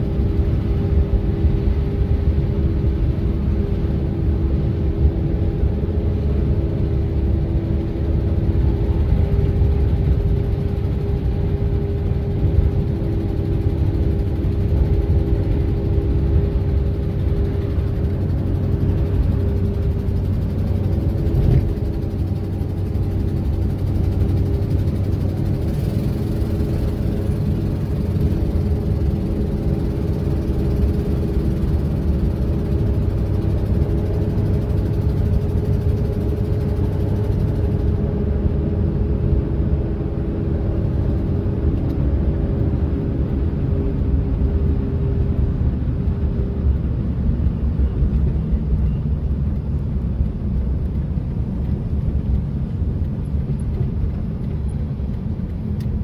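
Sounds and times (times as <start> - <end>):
low road rumble: 0.0 - 56.0
vehicle engine drone: 0.0 - 56.0.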